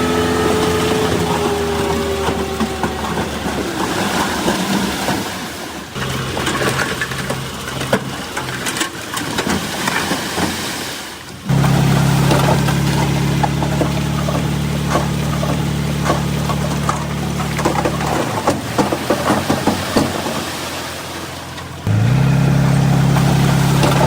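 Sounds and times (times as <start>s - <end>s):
heavy diesel machinery running: 0.0s - 9.9s, 11.3s - 24.0s.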